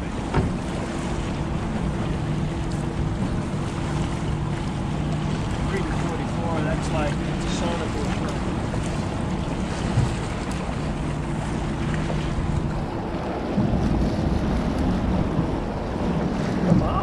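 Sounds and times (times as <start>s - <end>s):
outboard motor idling: 0.0s - 17.0s
water slapping a hull: 0.0s - 17.0s
wind buffeting microphone: 0.0s - 17.0s.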